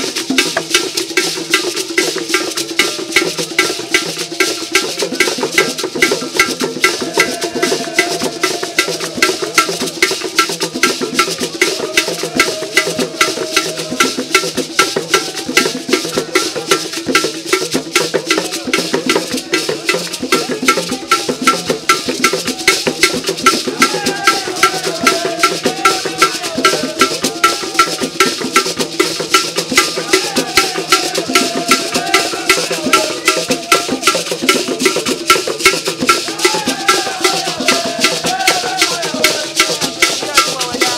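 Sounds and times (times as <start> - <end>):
drums beating: 0.0 - 40.9
voices singing: 0.0 - 40.9.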